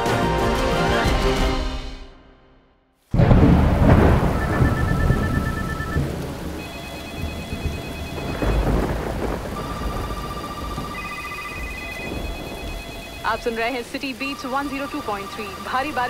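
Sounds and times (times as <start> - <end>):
heavy rain: 3.1 - 16.0
low thunder rumble: 3.1 - 16.0
thunder clap: 3.1 - 16.0.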